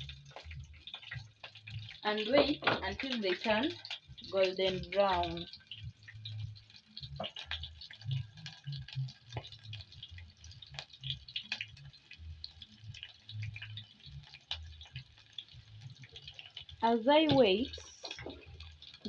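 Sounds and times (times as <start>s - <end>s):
onions frying in oil: 0.0s - 19.0s.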